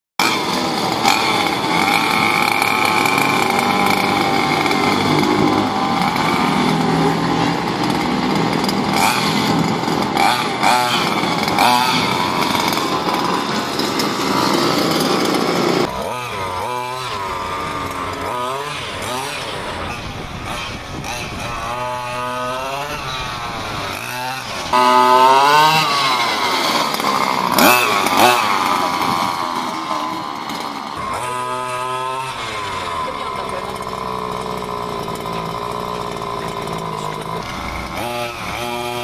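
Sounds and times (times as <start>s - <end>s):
small two-stroke engine revving: 0.2s - 39.0s.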